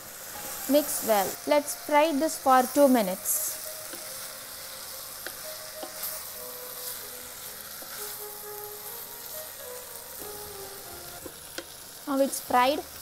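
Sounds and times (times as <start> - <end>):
masala sizzling in a pot: 0.0 - 13.0.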